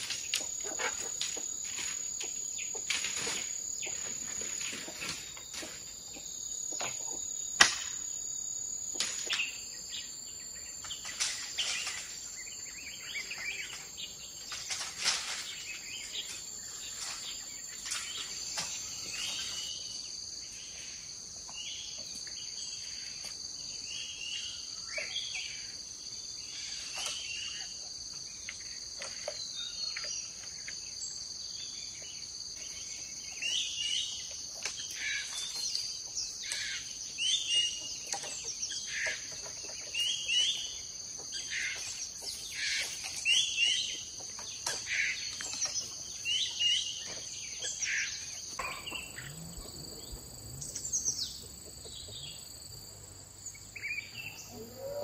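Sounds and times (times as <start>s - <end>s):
birds chirping: 0.0s - 20.5s, 28.4s - 55.0s
insects buzzing: 0.0s - 55.0s.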